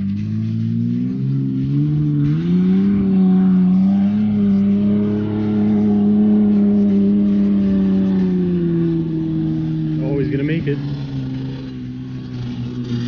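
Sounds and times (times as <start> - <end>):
car engine revving high: 0.0 - 13.0.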